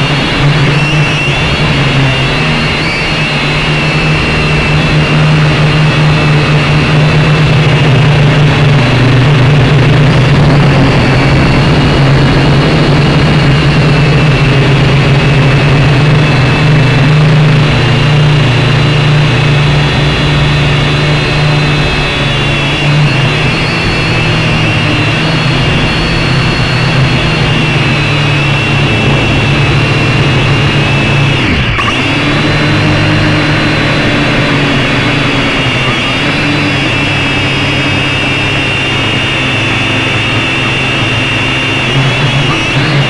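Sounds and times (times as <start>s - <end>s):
drone propellers buzzing: 0.0s - 43.0s.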